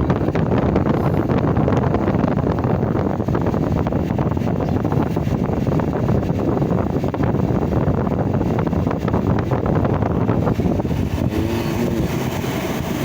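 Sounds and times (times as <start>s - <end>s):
air buffeting microphone: 0.0s - 13.0s.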